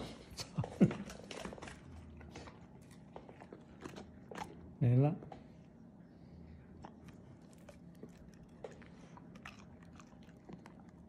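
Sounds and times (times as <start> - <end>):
dog chewing and lip-smacking: 1.0 - 5.5, 6.6 - 11.0.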